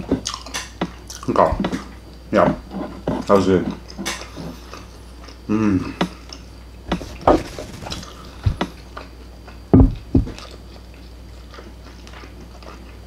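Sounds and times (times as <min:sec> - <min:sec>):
man chewing food: 0:00.0 - 0:02.2, 0:03.7 - 0:13.0.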